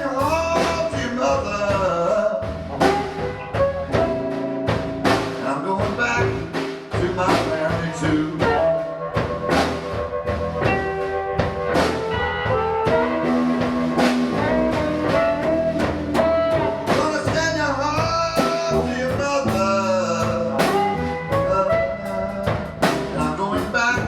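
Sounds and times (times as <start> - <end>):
blues band playing: 0.0 - 24.0
electric guitar lead: 0.0 - 24.0.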